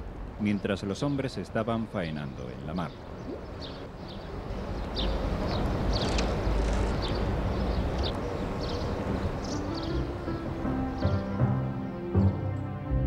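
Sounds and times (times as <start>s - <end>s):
small birds chirping: 0.4s - 11.2s.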